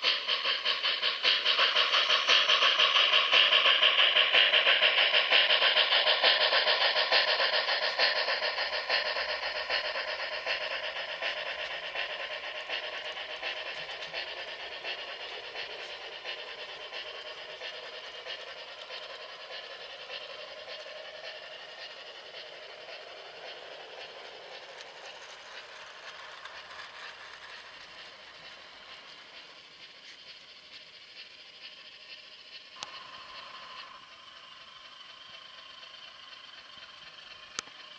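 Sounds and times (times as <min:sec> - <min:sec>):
model train clattering on track: 0:00.0 - 0:37.9.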